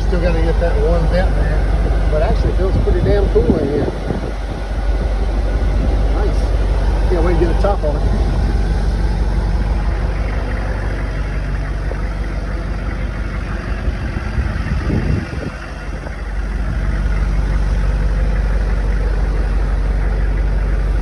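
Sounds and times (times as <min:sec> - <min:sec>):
air conditioner running: 0:00.0 - 0:21.0
diesel engine idling: 0:00.0 - 0:21.0.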